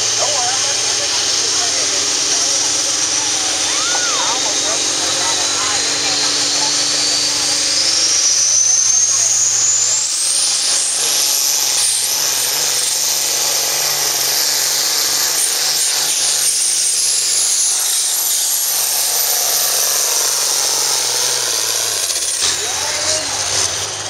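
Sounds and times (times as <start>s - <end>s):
diesel engine droning under load: 0.0s - 16.0s, 17.1s - 24.0s.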